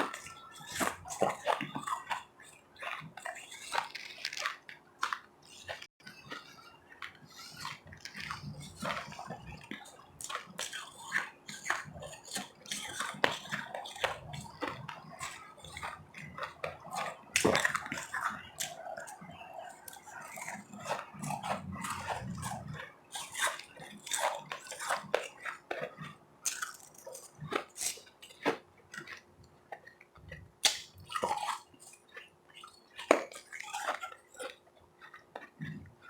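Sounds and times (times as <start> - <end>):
ice being crunched and chewed: 0.0 - 36.0.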